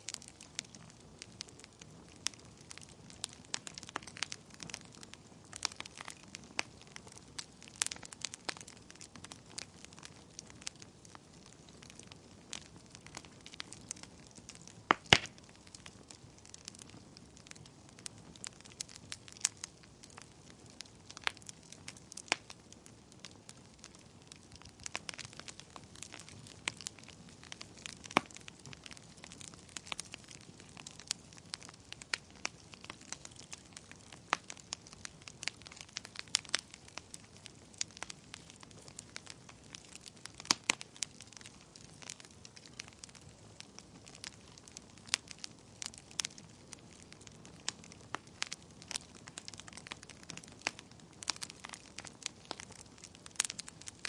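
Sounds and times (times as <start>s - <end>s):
faint steady hiss: 0.0s - 54.0s
wood fire crackling and popping: 0.0s - 54.0s.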